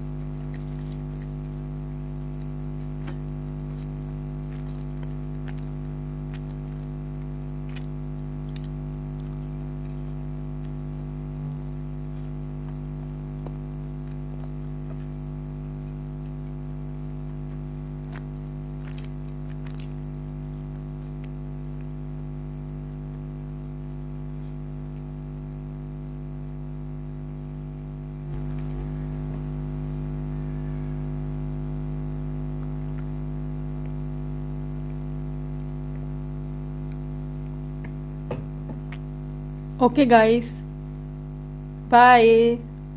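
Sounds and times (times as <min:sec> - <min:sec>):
chewing and biting food: 0:00.0 - 0:29.6, 0:32.4 - 0:39.8
steady low hum: 0:00.0 - 0:42.9.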